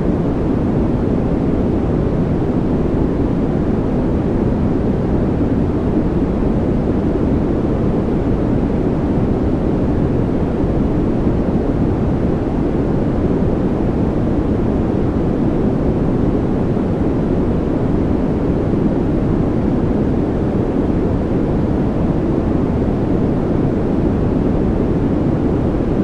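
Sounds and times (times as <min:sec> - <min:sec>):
deep white noise hiss: 0:00.0 - 0:26.0.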